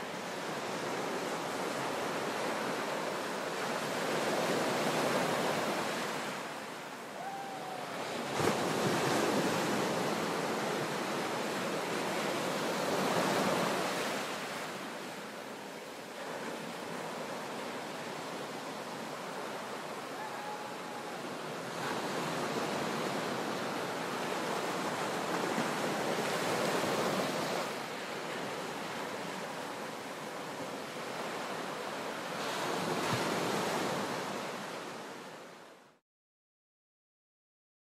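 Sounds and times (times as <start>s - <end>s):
sea waves crashing in a cave: 0.0s - 35.6s.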